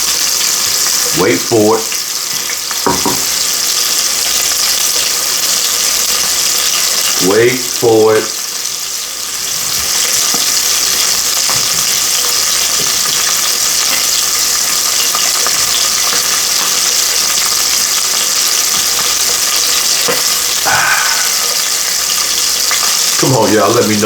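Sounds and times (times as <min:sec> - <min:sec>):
oil crackles and pops: 0:00.0 - 0:07.4, 0:08.2 - 0:24.0
chicken sizzling in oil: 0:00.0 - 0:24.0.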